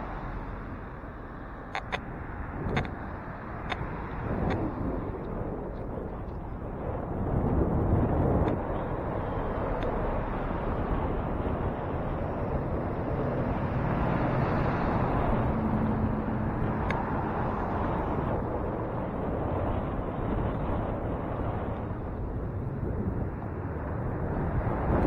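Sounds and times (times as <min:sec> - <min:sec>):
road noise: 0:00.0 - 0:25.0
wind rushing on microphone: 0:00.0 - 0:25.0.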